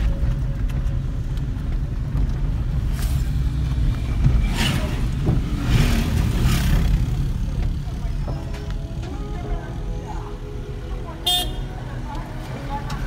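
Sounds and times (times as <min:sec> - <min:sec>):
car rumbling on dirt road: 0:00.0 - 0:13.0.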